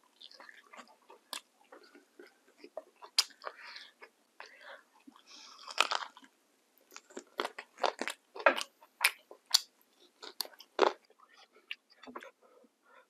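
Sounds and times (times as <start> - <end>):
crunchy food chewing: 0.0 - 12.3.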